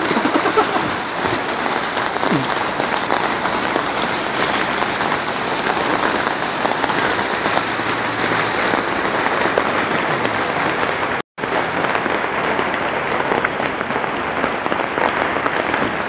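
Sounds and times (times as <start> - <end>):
flood water rushing: 0.0 - 16.0
heavy rain: 0.0 - 16.0.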